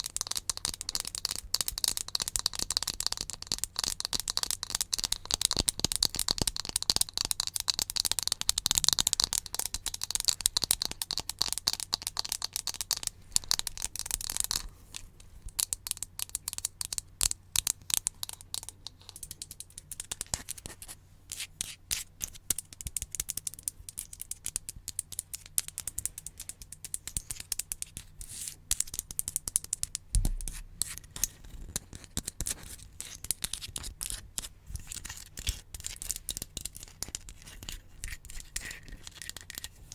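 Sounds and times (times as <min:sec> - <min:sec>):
sharp clicks and scratches: 0:00.0 - 0:39.9.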